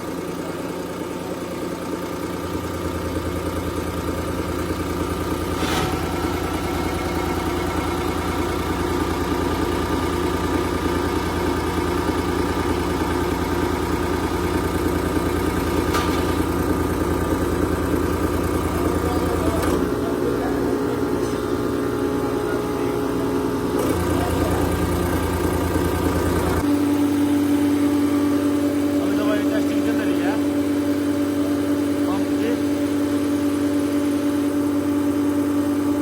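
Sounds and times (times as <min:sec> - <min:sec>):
fuel injection pump humming: 0:00.0 - 0:36.0.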